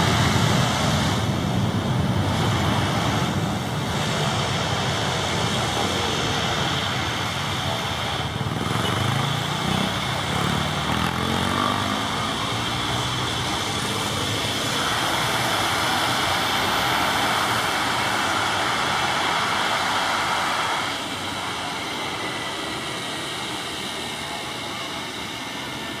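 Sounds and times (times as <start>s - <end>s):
jet engine rush with whine: 0.0s - 26.0s.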